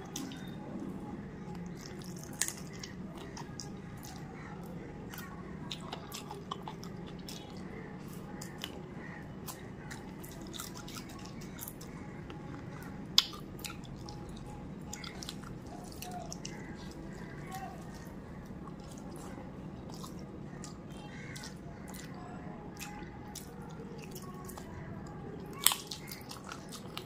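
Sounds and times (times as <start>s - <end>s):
chewing and wet mouth sounds: 0.0s - 27.0s
low steady hum: 0.0s - 27.0s.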